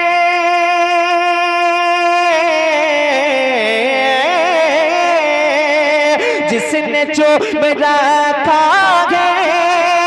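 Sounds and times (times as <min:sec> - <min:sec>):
man singing wordless melody: 0:00.0 - 0:10.0.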